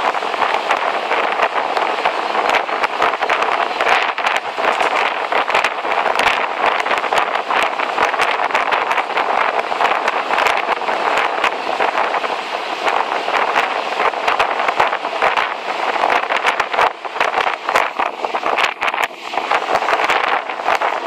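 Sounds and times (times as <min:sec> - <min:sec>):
boat rushing on water: 0:00.0 - 0:21.0
wind buffeting microphone: 0:00.0 - 0:21.0.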